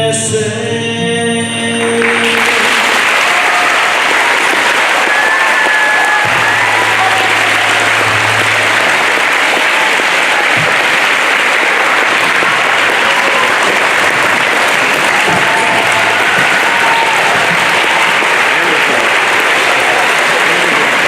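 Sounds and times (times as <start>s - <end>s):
audience applauding: 1.8s - 21.0s.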